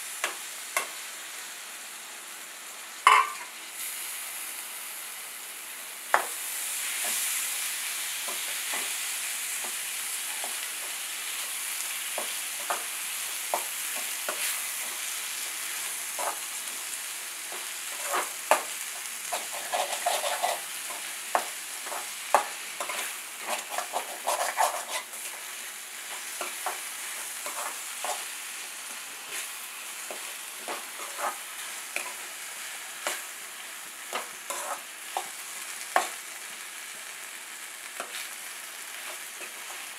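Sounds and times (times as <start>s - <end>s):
vegetables frying in hot oil: 0.0s - 39.9s.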